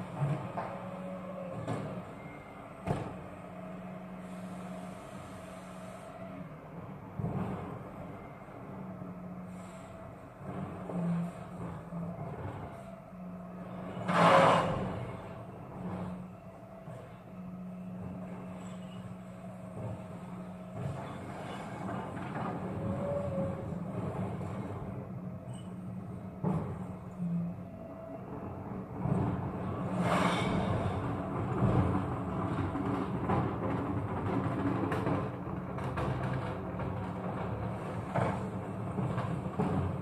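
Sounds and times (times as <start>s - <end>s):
muffled refuse lorry engine: 0.0s - 40.0s.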